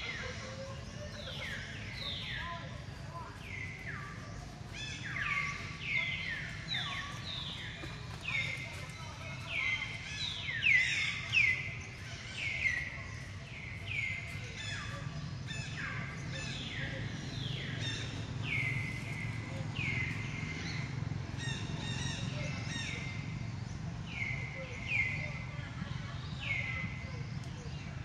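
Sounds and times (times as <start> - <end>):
low outdoor background: 0.0 - 28.0.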